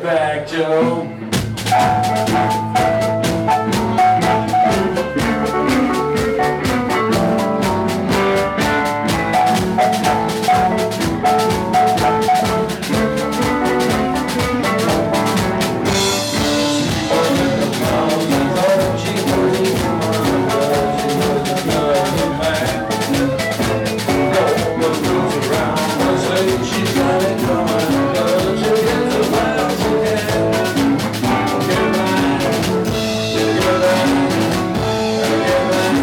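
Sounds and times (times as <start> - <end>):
rock band playing: 0.7 - 36.0
drum beat: 1.3 - 36.0
cymbals: 1.5 - 36.0.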